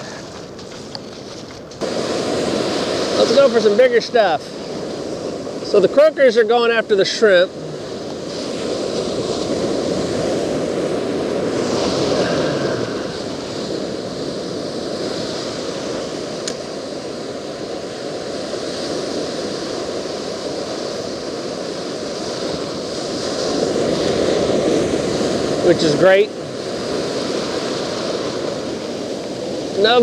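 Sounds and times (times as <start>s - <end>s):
ocean surf breaking: 0.0s - 30.0s
wind on microphone: 0.0s - 30.0s.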